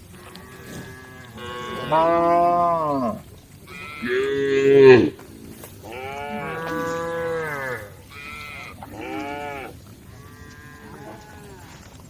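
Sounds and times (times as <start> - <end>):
cows mooing: 0.1 - 11.9.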